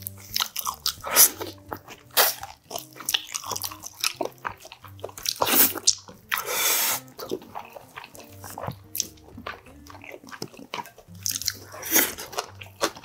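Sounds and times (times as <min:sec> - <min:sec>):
slurping suck on a bone: 0:00.0 - 0:13.0
wet biting and chewing: 0:00.0 - 0:13.0.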